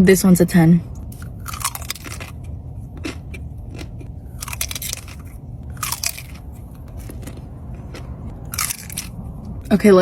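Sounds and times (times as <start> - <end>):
chewing with crisp crunches: 1.0 - 9.6.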